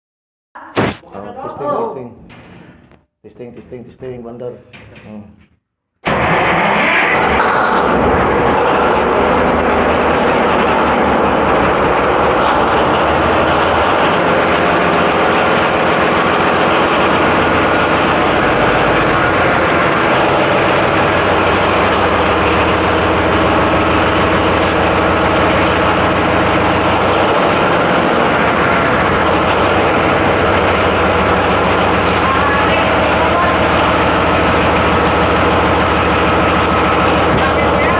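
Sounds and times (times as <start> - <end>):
ship machinery drone: 6.0 - 37.9.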